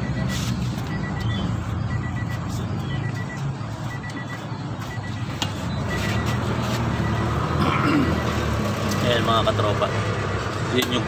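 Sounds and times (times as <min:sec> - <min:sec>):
high-pitched electronic beeps: 0:00.0 - 0:10.4.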